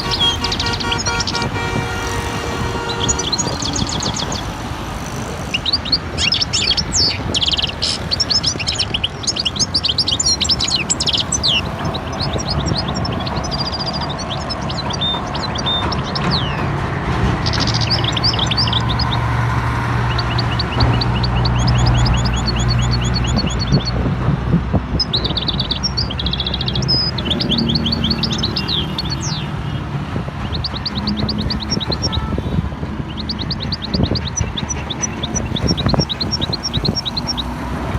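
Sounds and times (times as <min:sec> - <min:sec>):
small birds chirping and twittering: 0:00.0 - 0:37.9.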